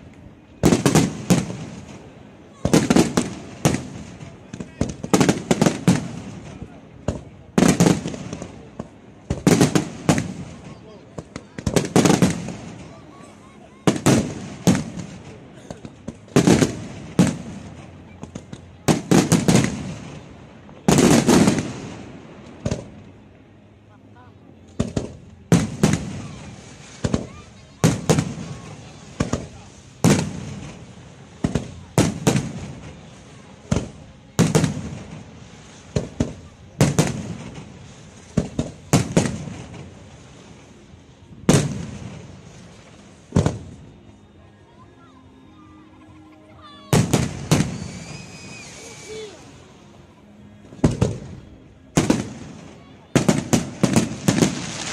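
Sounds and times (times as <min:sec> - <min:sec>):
fireworks bursting with echo: 0:00.0 - 0:23.8, 0:24.6 - 0:44.4, 0:46.4 - 0:54.9.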